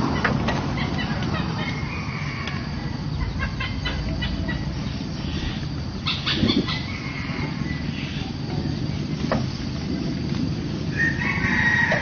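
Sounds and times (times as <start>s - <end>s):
clucking bird calls: 0.0s - 12.0s
low background noise: 0.0s - 12.0s.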